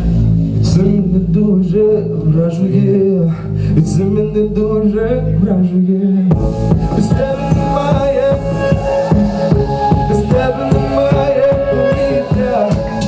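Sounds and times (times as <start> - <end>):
electronic backing track with bass: 0.0 - 13.0
man singing into microphone: 0.6 - 13.0.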